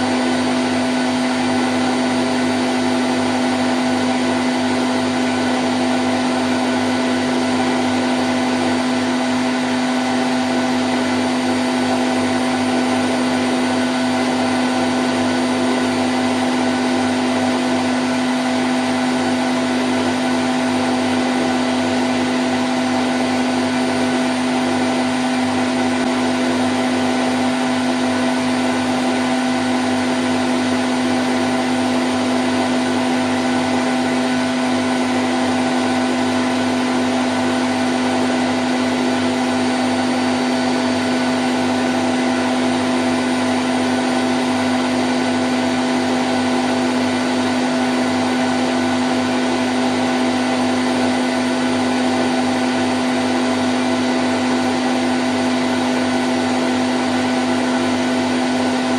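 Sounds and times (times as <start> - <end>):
washing machine spinning: 0.0 - 58.9.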